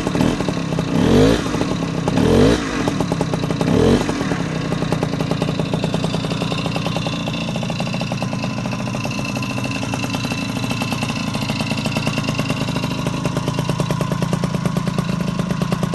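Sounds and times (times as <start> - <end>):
moped engine idling: 0.0 - 15.9.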